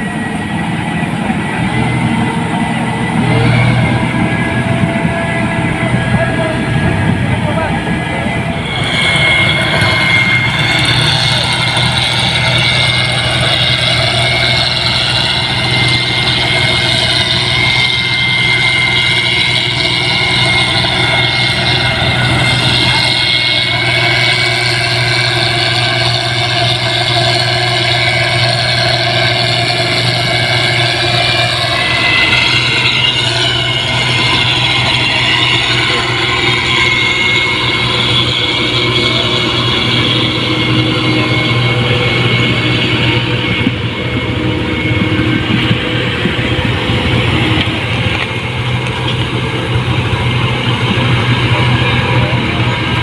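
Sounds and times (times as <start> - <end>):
combine harvester running: 0.0 - 53.0
thin high whine: 0.0 - 53.0.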